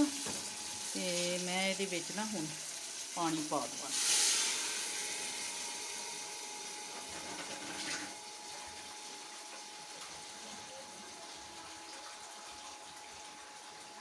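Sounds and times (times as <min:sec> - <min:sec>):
water hissing in hot pan: 0:00.0 - 0:12.2.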